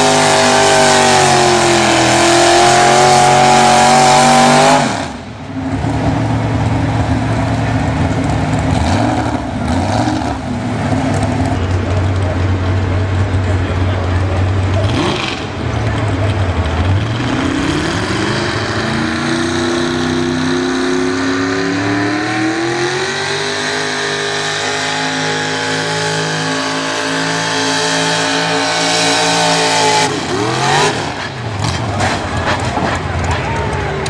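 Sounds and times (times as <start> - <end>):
pulling truck engine revving: 0.0 - 34.0.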